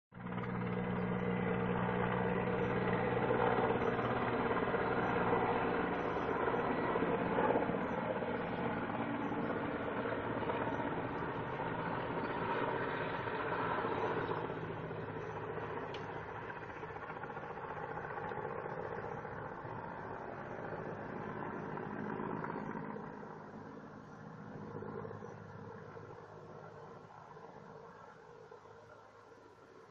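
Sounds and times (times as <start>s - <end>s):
distant helicopter flying past: 0.2s - 29.9s.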